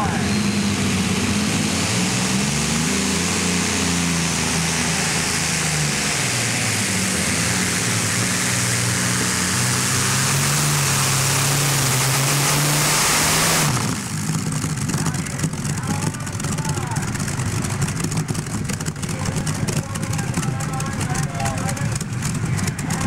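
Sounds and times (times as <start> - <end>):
tractor engine at full throttle: 0.0 - 23.0.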